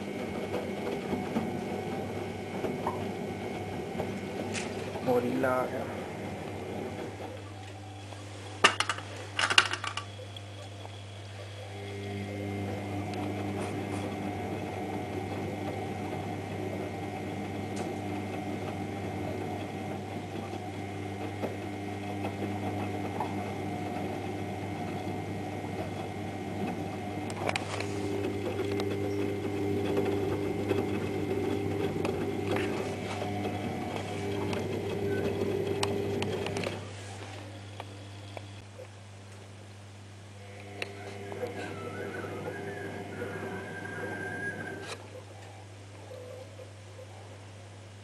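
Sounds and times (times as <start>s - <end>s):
washing machine running: 0.0s - 38.6s, 40.2s - 45.1s.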